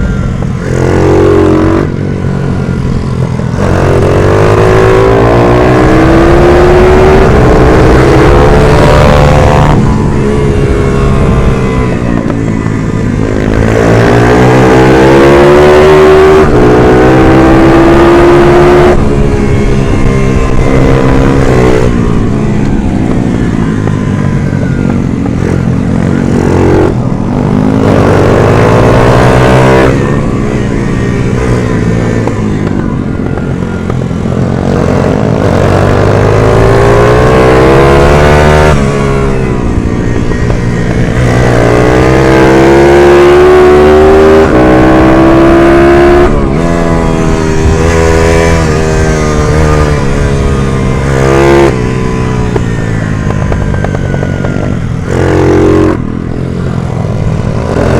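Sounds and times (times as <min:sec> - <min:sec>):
minibike engine revving: 0:00.0 - 0:57.9.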